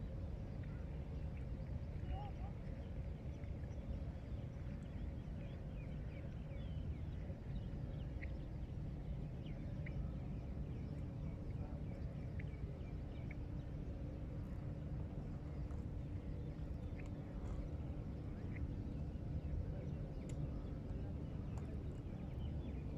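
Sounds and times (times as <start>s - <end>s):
low outdoor rumble: 0.0s - 22.9s.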